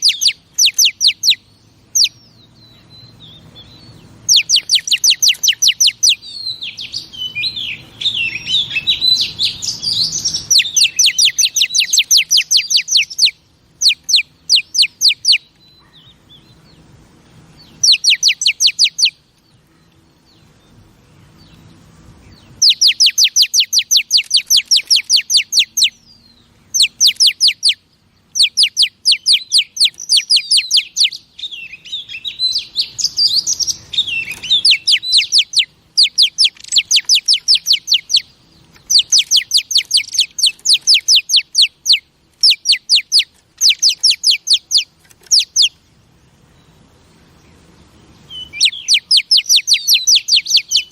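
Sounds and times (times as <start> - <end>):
bird twittering: 0.0 - 50.9.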